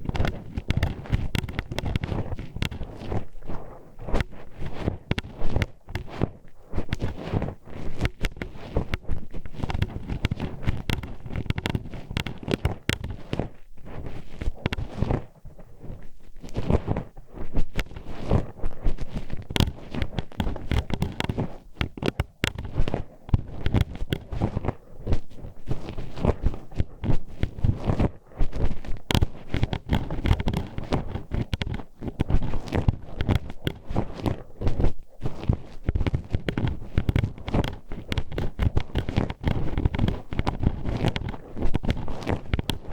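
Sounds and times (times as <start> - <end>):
hairpin scraping in microphone: 0.0 - 42.9
microphone handling thumps: 0.0 - 42.9.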